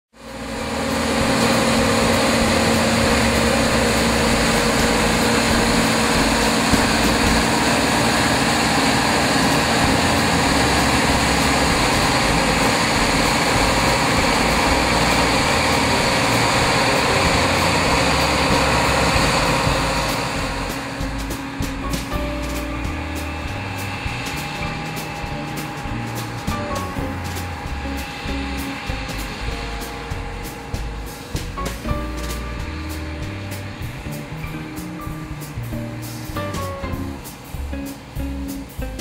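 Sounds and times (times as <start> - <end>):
combine harvester droning: 0.2 - 39.0.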